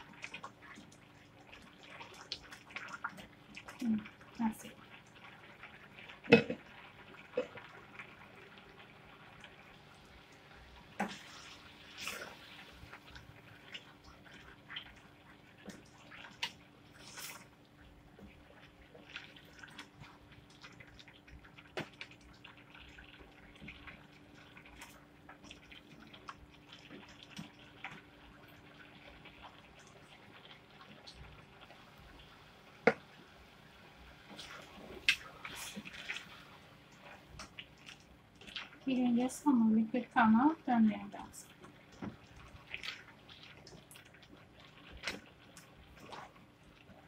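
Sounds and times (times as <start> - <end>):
jam bubbling in a pan: 0.0 - 47.0.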